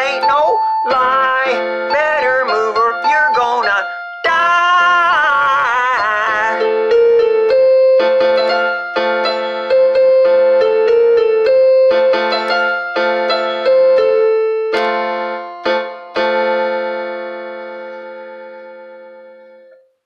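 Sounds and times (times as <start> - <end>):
keyboard notes and chord: 0.0 - 20.0.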